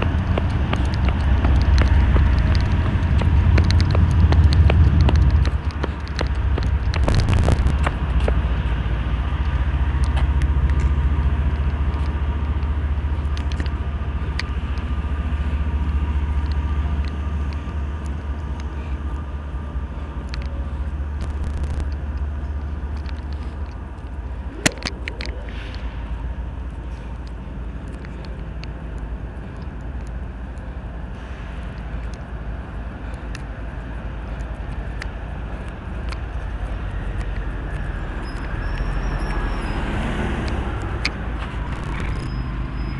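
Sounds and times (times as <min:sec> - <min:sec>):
train rumbling by: 0:00.0 - 0:42.9.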